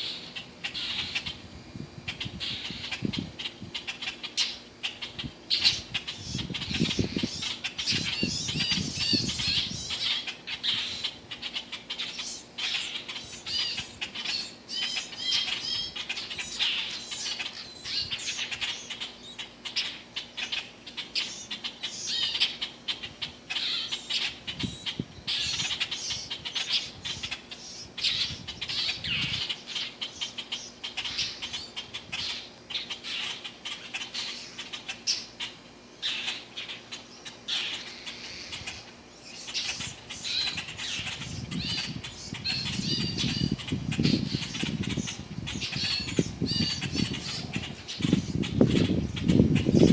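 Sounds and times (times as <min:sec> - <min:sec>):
baby bird squawking: 0:00.0 - 0:01.4, 0:02.1 - 0:49.9.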